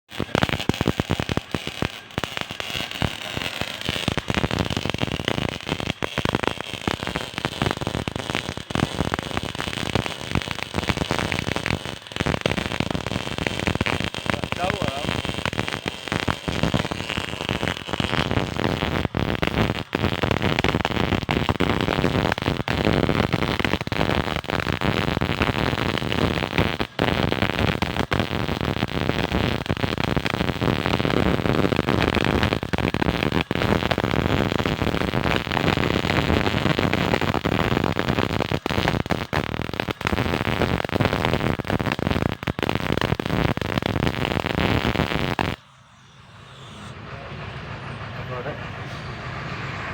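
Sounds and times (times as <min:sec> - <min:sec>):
welding arc crackling: 0:00.0 - 0:46.1.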